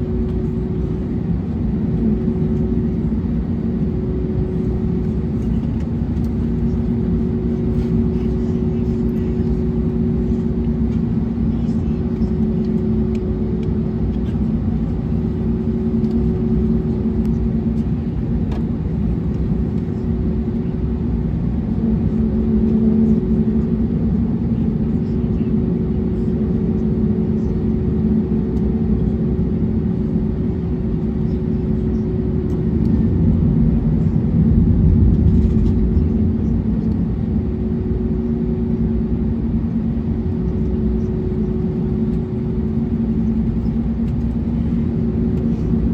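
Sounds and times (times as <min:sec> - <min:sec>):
aircraft cabin rumble: 0:00.0 - 0:45.9
aircraft engines humming: 0:00.0 - 0:45.9.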